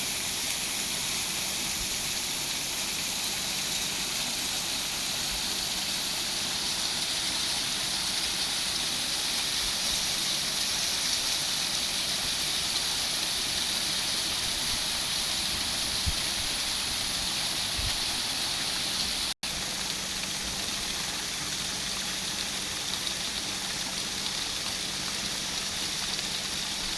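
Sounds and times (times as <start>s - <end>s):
fountain water splashing: 0.0s - 26.9s.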